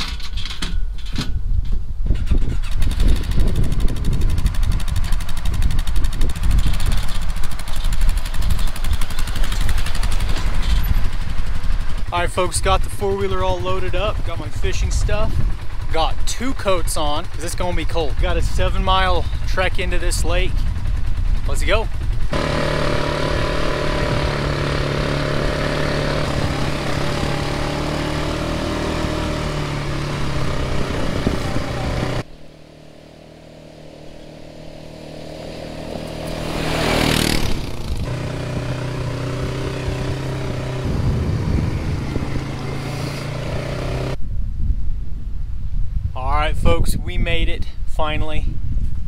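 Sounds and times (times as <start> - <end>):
atv engine running: 2.2 - 44.2
atv passing by: 2.9 - 19.5, 20.1 - 44.2.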